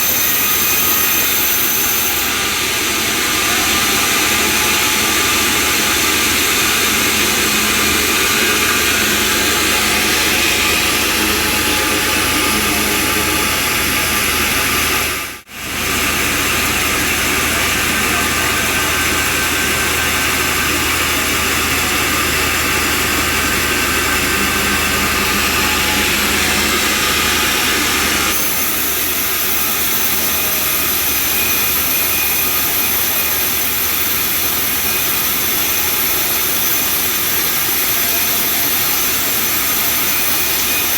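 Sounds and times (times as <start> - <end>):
bandsaw and engine running: 0.0 - 40.9.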